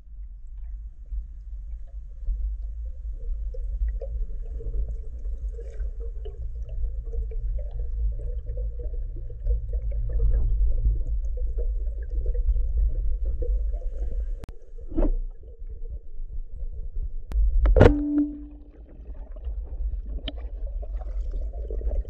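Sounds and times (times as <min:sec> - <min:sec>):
underwater rumble of moving water: 0:00.0 - 0:22.0.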